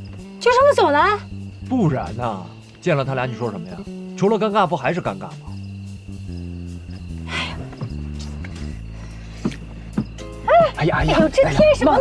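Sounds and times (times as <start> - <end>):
music of sustained low notes: 0.0 - 12.0.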